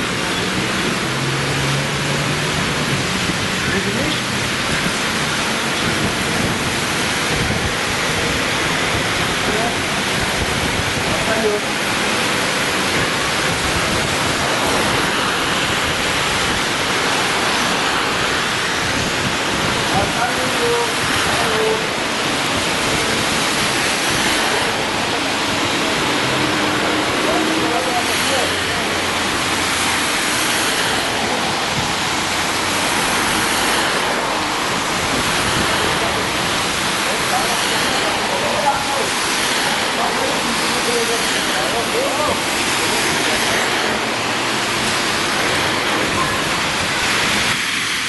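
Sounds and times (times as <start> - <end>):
heavy rain falling: 0.0 - 48.0
tyres hissing on wet road: 0.0 - 48.0.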